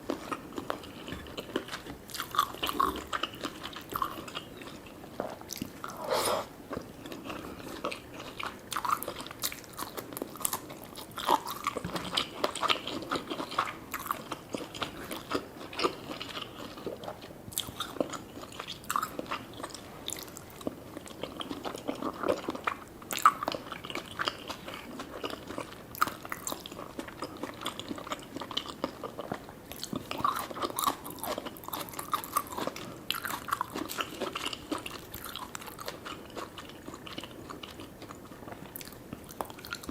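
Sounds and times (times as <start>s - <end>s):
person chewing and biting food: 0.1s - 39.9s.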